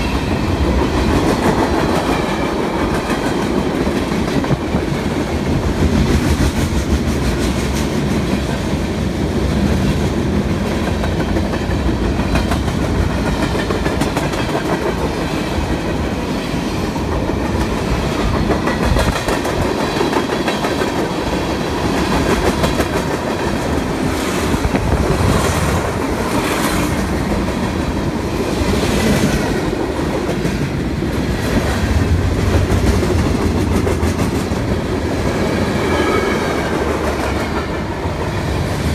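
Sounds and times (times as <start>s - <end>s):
freight train cars rumbling past: 0.0s - 38.9s.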